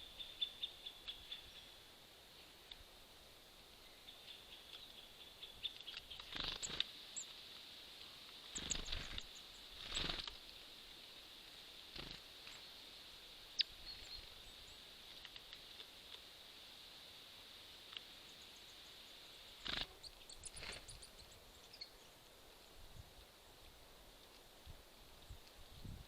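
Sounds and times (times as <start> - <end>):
microphone hiss: 0.0 - 26.0.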